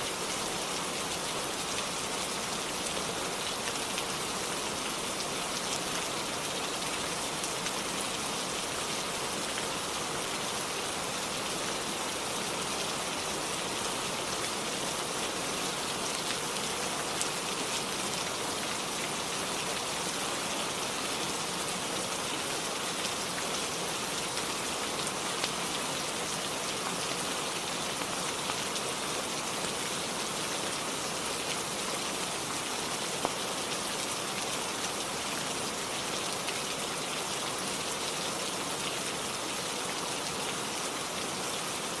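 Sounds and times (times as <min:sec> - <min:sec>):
heavy rainfall hiss: 0:00.0 - 0:42.0.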